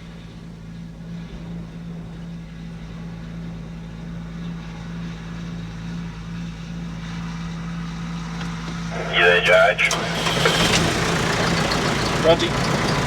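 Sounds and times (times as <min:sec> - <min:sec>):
farm machine engine droning: 0:02.5 - 0:13.0.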